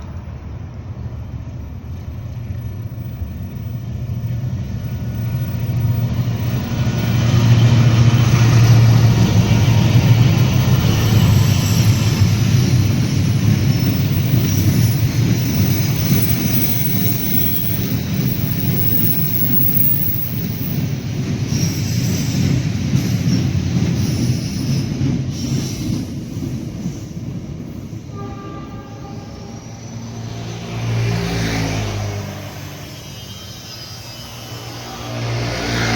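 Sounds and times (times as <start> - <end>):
train rumbling over bridge: 0.0 - 35.9.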